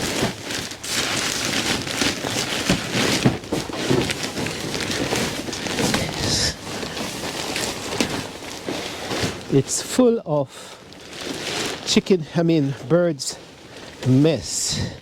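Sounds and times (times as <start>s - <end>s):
bag rustling and crackling: 0.0s - 14.6s.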